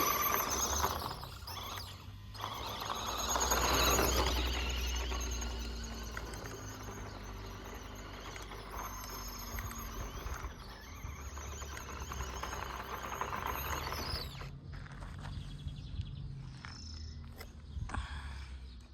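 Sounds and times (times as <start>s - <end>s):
rc car motor whine: 0.0s - 15.4s.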